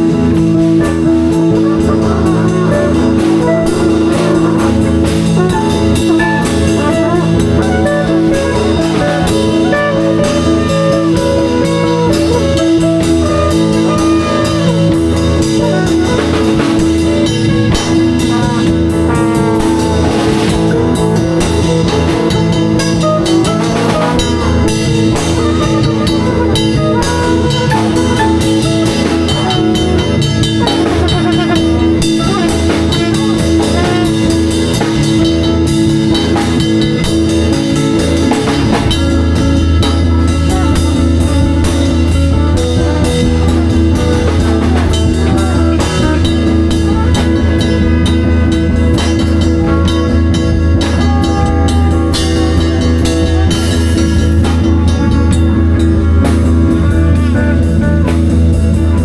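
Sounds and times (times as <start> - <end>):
drum kit beat: 0.0 - 59.0
electric guitar: 0.0 - 59.0
sustained bass note: 0.0 - 59.0.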